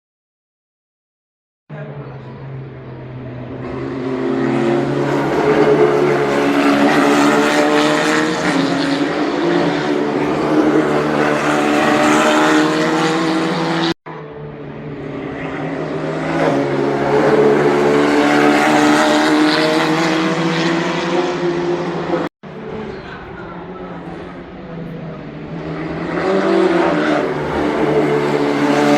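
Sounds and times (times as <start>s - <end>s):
race car engine at high revs: 1.8s - 28.9s.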